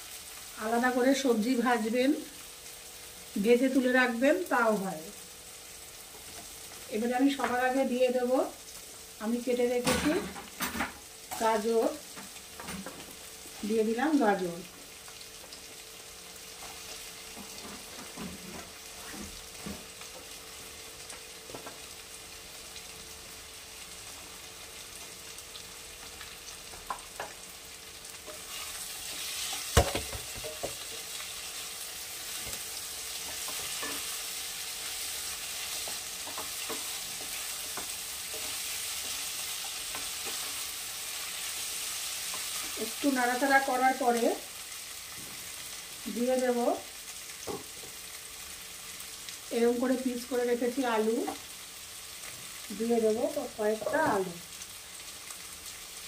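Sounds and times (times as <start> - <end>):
carrots sizzling in oil: 0.0 - 56.0.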